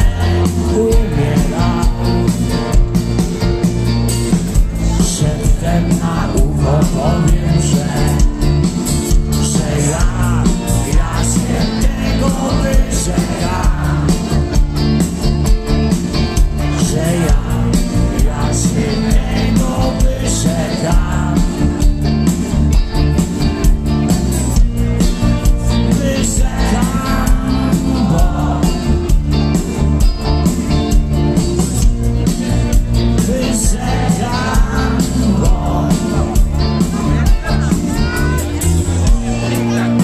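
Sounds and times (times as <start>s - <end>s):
live rock band: 0.0s - 40.0s.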